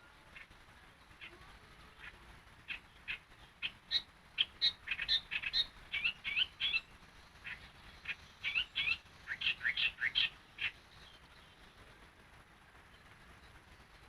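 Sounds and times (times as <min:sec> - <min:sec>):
bird chirping: 0:00.2 - 0:14.0.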